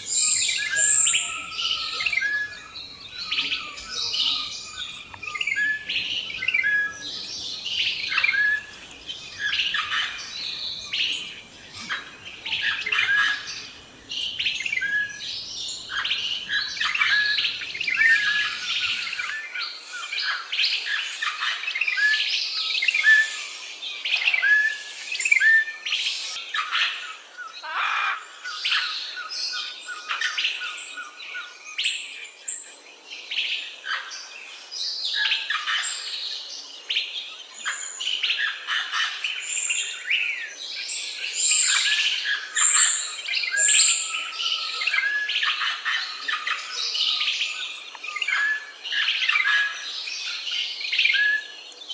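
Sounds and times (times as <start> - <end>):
songbirds chirping and whistling: 0.0 - 51.9.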